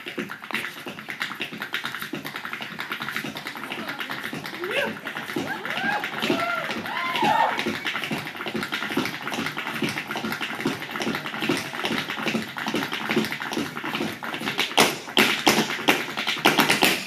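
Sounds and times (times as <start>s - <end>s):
feet tapping and stamping on stage: 0.0s - 17.0s.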